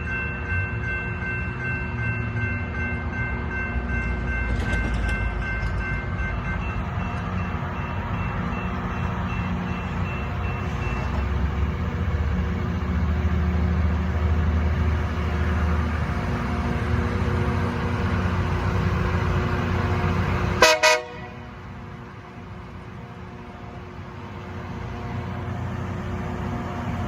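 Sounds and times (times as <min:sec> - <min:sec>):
train engines rumbling: 0:00.0 - 0:27.0.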